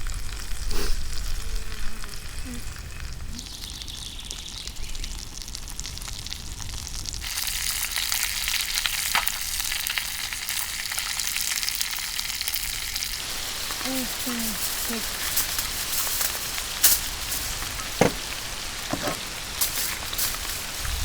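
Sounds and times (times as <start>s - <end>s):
fish sizzling in hot oil: 0.2s - 21.0s.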